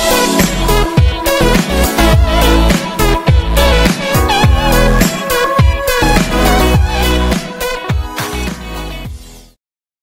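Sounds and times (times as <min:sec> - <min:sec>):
background music: 0:00.0 - 0:09.6.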